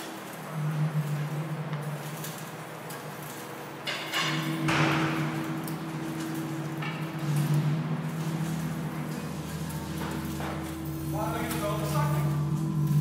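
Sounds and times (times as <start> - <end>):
low electronic drone hum: 0.0 - 13.0
noisy scrapes: 0.0 - 13.0.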